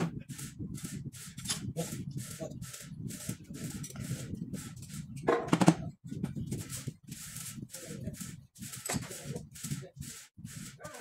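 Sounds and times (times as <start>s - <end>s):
pulsing hiss: 0.2s - 5.1s, 6.6s - 11.0s.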